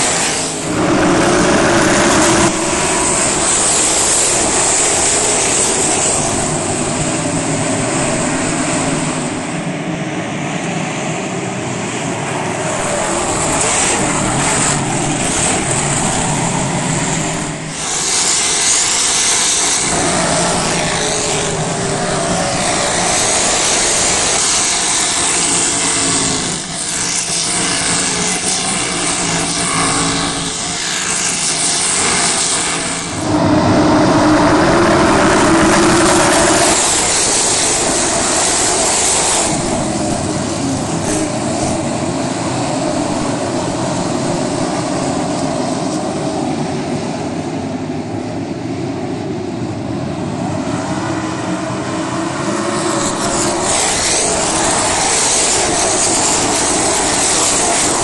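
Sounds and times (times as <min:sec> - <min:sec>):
race car engines running: 0:00.0 - 0:09.9, 0:11.9 - 0:18.0, 0:19.6 - 0:48.0, 0:49.0 - 0:58.0.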